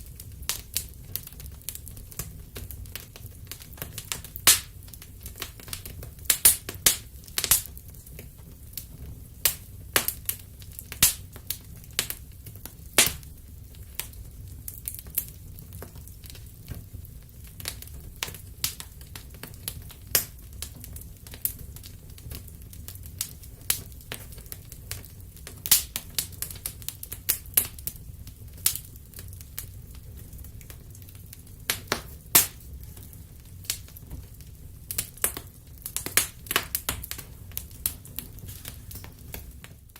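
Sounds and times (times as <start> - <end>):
low rumble of burning fire: 0.0 - 39.9
wood fire crackling and popping: 0.0 - 39.9.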